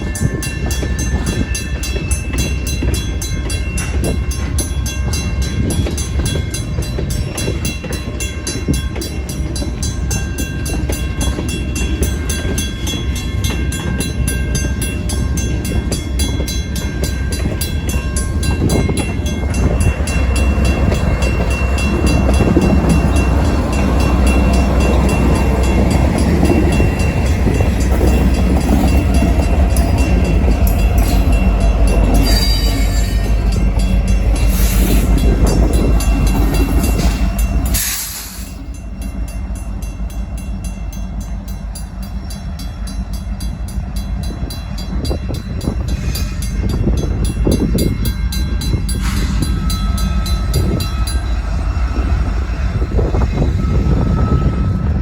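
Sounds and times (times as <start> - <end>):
crossing bell ringing: 0.0 - 55.0
train cars rumbling and clattering: 0.0 - 55.0.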